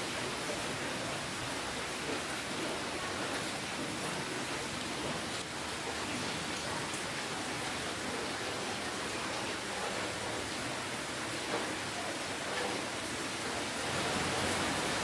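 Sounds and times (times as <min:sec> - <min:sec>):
rainfall: 0:00.0 - 0:15.0.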